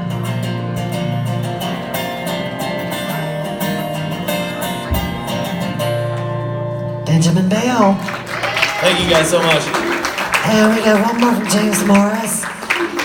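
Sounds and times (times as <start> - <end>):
acoustic guitar strumming: 0.0 - 12.4.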